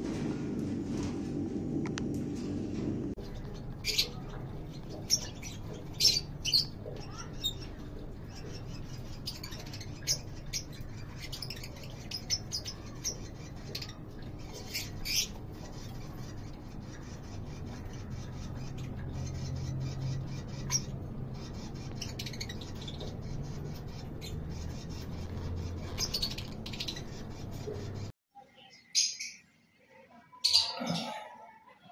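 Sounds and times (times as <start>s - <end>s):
low steady hum: 0.0s - 28.1s
birds chirping: 2.1s - 29.8s, 30.4s - 31.4s.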